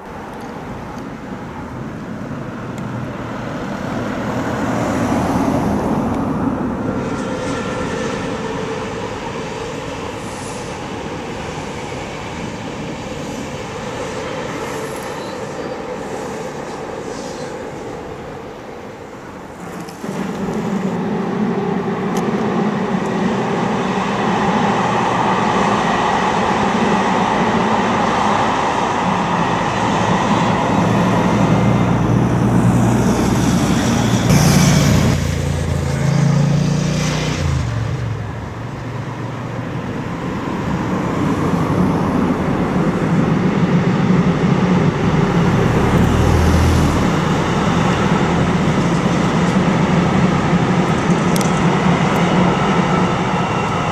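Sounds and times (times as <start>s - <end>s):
passenger train running: 0.0s - 53.9s
road vehicle passing: 0.8s - 53.9s.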